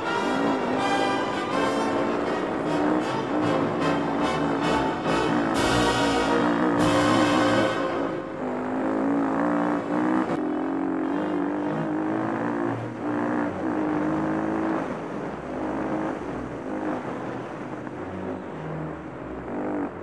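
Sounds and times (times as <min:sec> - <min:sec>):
motorcycle engine revving: 0:01.9 - 0:20.0.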